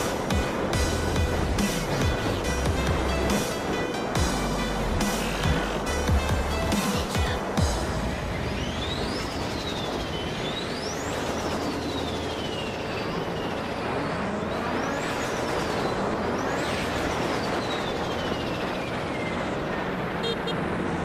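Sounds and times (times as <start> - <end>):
motorcycle engine whine: 0.0 - 21.0.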